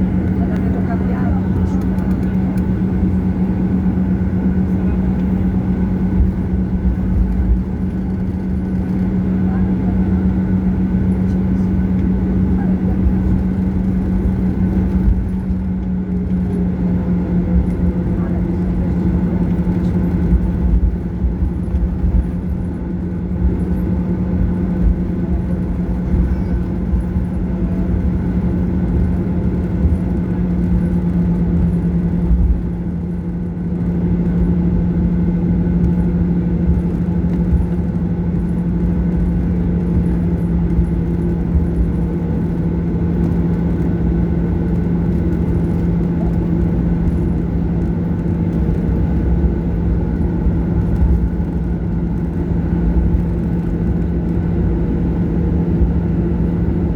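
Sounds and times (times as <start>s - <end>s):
airplane cabin engine hum: 0.0s - 56.9s.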